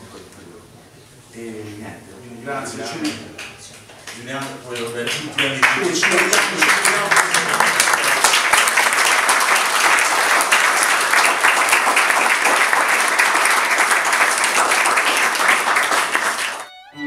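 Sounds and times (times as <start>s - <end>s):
crowd applauding: 2.9s - 17.0s.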